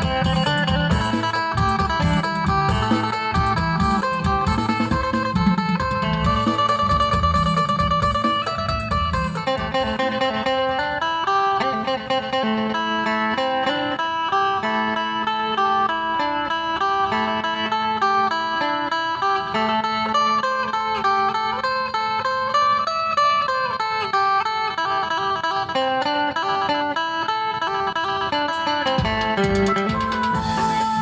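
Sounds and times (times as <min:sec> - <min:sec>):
plucked lute melody: 0:00.0 - 0:31.0.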